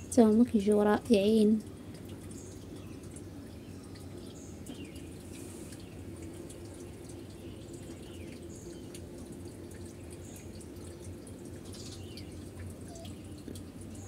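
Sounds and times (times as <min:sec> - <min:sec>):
low machine hum: 0:00.0 - 0:14.0
faint light ticks: 0:01.9 - 0:14.0.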